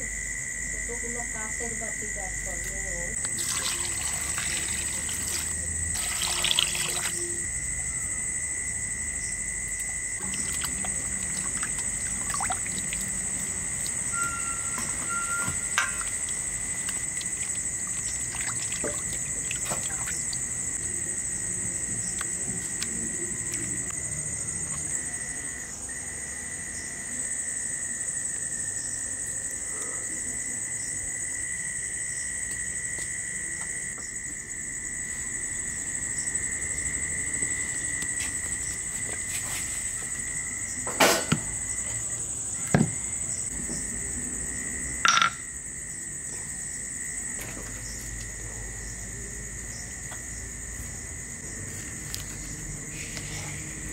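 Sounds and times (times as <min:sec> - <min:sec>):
crickets chirring: 0:00.0 - 0:53.9.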